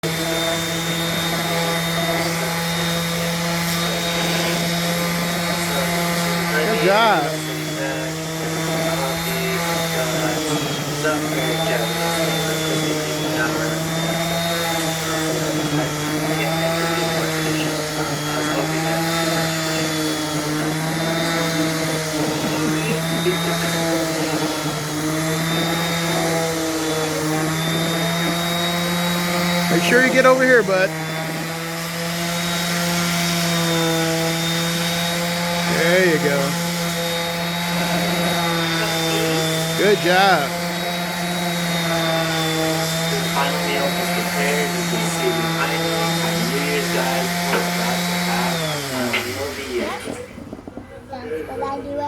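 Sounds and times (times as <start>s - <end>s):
orbital sander sanding wood: 0.0s - 50.8s.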